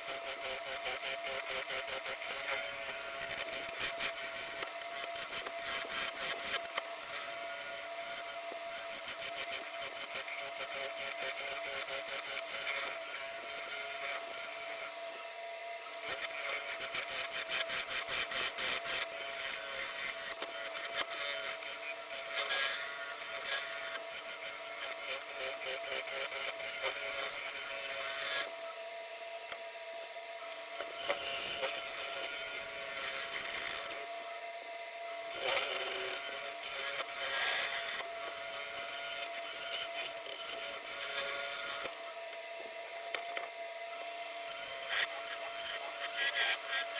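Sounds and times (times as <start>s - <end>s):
wood lathe motor whine: 0.0s - 46.9s.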